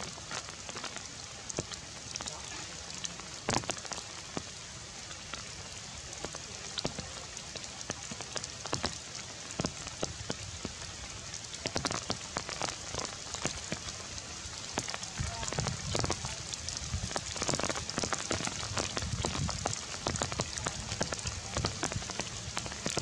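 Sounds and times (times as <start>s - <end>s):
rain falling through foliage: 0.0s - 23.0s.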